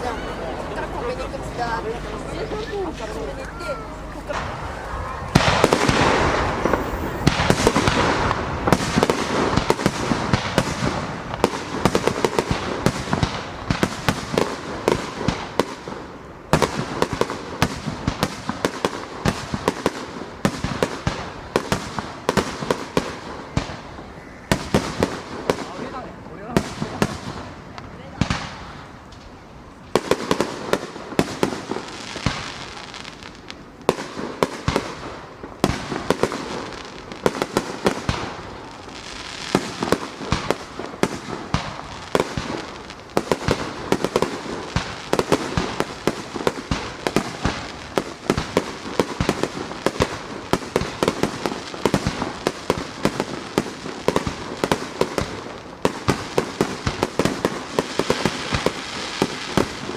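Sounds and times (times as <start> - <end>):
crackling hiss: 0.0 - 59.9
fireworks bangs: 0.0 - 59.9.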